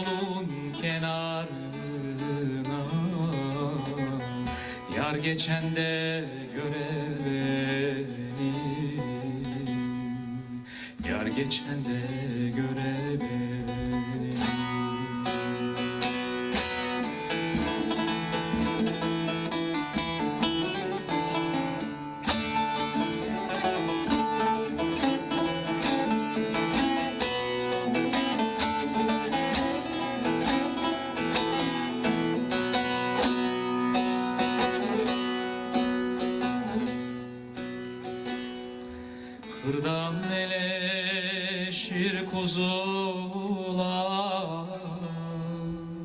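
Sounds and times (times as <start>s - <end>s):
plucked string instrument runs: 0.0s - 38.9s.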